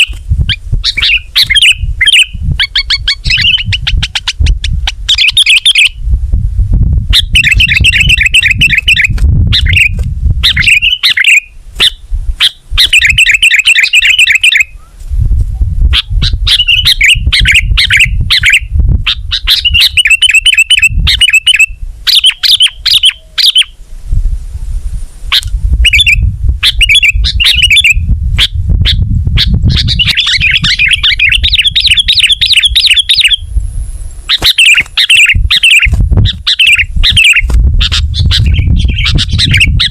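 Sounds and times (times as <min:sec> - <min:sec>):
bulbul chattering song: 0:00.0 - 0:06.0, 0:07.1 - 0:14.8, 0:15.9 - 0:23.8, 0:25.4 - 0:33.5, 0:34.3 - 0:39.9.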